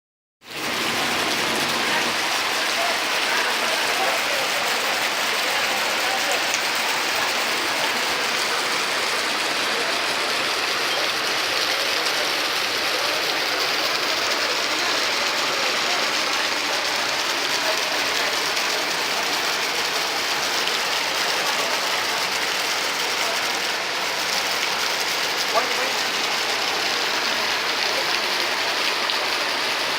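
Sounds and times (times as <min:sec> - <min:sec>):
floodwater rushing: 0:00.5 - 0:29.9.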